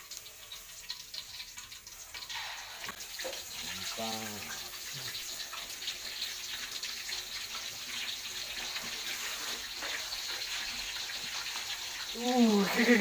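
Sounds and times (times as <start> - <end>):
fish deep-frying in hot oil: 0.0 - 13.0.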